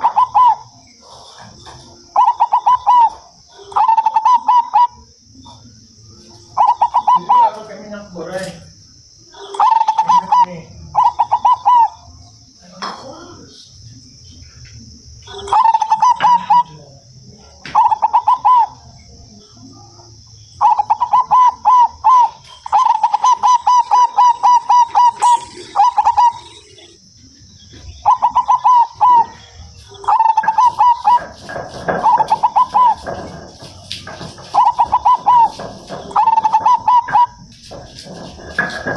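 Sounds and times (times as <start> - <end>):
doves cooing: 0.0 - 12.6, 13.7 - 38.9
steady high-pitched hiss: 0.0 - 38.9.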